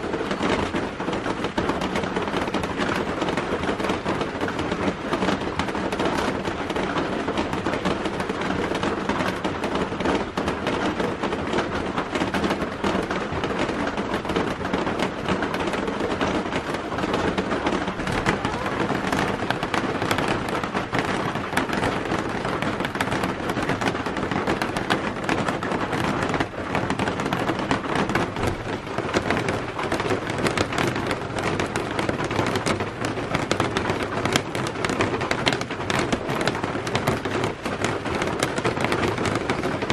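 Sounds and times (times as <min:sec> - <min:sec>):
dense crackling patter: 0:00.0 - 0:39.9.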